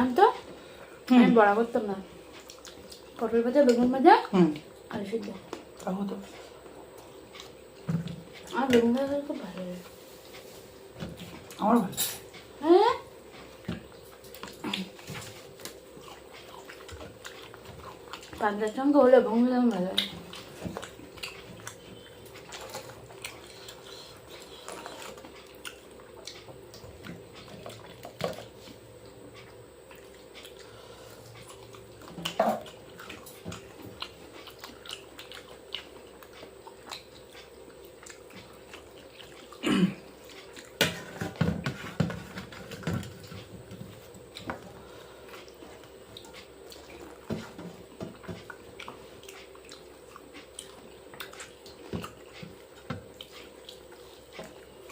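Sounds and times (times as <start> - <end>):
faint steady hum: 0.0 - 54.9
wet chewing and smacking: 2.2 - 11.6, 13.2 - 18.9, 19.6 - 41.1, 42.4 - 54.9.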